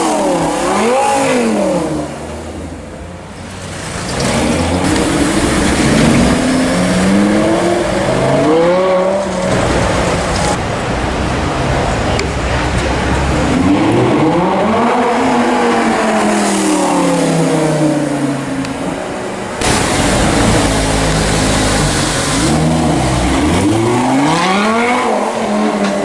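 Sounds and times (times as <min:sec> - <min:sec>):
car engine revving and accelerating: 0:00.0 - 0:02.8, 0:03.7 - 0:10.6, 0:13.2 - 0:26.0.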